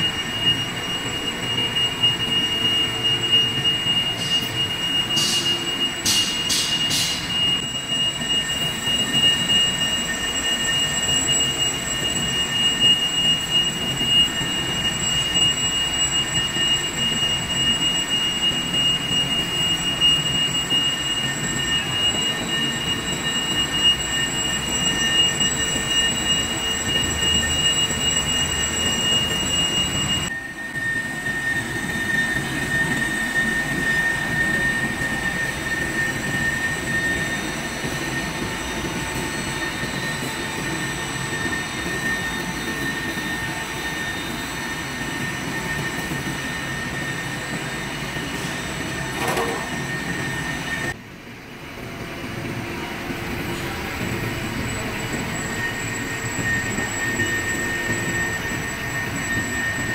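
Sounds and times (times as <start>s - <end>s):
lathe tool squealing: 0.0s - 51.0s, 53.6s - 59.9s.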